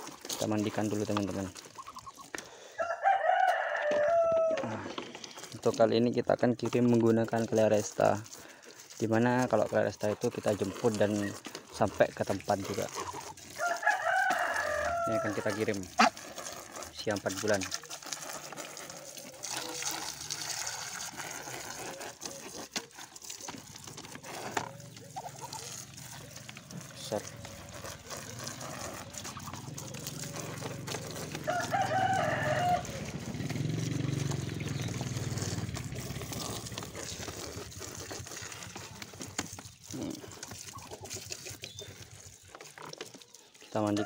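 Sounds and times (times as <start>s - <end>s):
water spraying and splashing: 0.0s - 44.0s.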